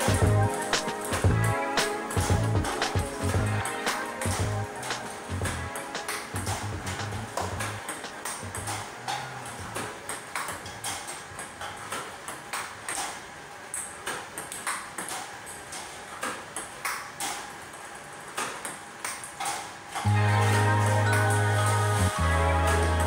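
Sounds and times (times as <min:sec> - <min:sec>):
table tennis balls clicking: 0:00.0 - 0:20.1.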